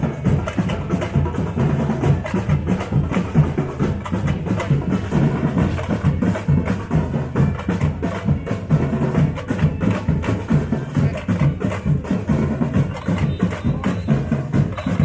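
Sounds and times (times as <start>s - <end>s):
drums playing fast beat: 0.0s - 15.0s.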